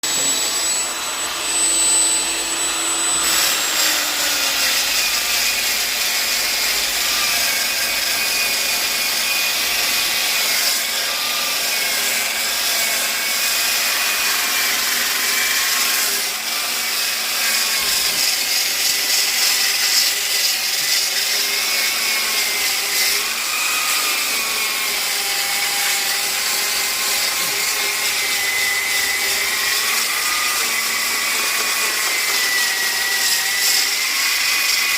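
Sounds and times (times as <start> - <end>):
electric polisher motor whine: 0.0 - 34.9
sanding disc hissing on wood: 0.0 - 34.9.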